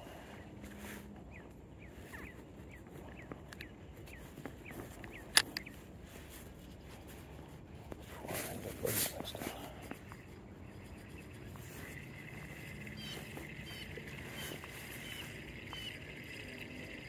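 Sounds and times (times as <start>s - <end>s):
small birds chirping: 0.0s - 7.2s, 8.2s - 17.0s.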